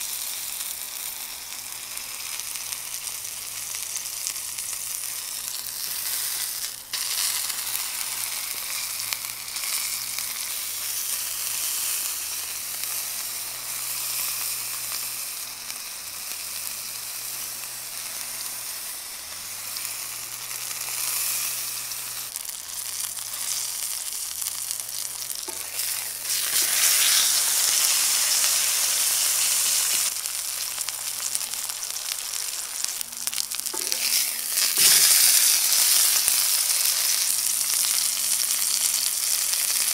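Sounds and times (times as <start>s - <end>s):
steak sizzling in oil: 0.0s - 39.9s.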